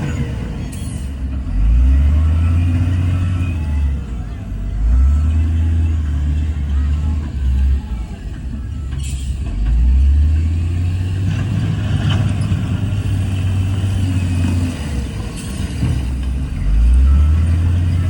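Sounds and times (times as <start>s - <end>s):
heavy diesel engine rumbling: 0.0s - 18.0s.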